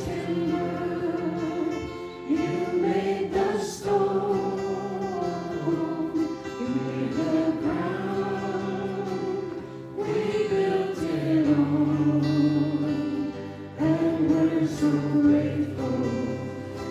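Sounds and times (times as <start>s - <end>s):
voices singing worship song: 0.0s - 16.9s.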